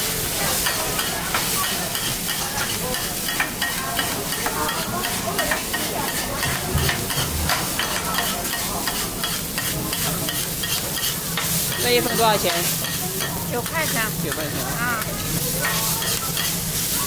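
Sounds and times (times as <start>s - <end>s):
food sizzling in pan: 0.0s - 17.0s
metal spatulas scraping pan: 0.6s - 17.0s.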